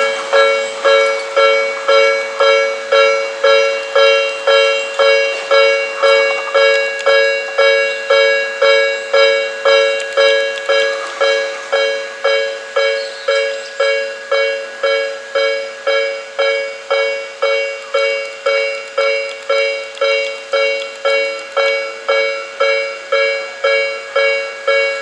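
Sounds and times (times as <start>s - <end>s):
level crossing alarm dinging: 0.0s - 25.0s.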